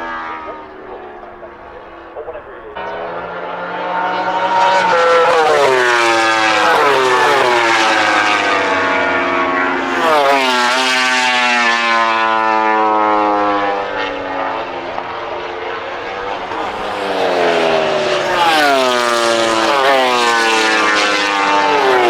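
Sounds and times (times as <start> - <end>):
race motorcycles passing: 0.0 - 22.0.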